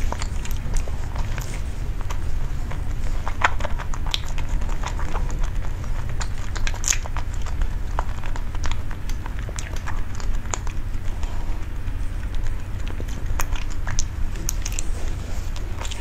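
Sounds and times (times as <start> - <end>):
steady low hum: 0.0 - 16.0
wet mouth chewing clicks: 0.0 - 16.0.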